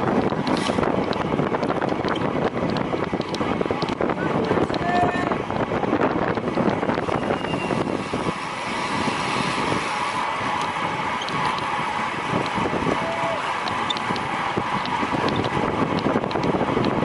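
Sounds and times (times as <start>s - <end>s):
road and bicycle noise: 0.0s - 17.0s
wind rushing on microphone: 0.0s - 17.0s.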